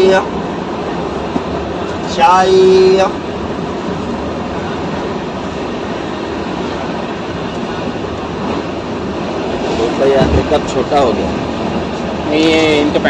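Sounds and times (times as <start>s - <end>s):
train coach running noise: 0.0s - 13.0s.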